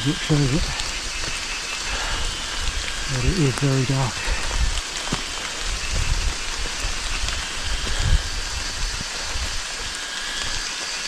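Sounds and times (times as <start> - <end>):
rain falling on foliage: 0.0 - 11.0.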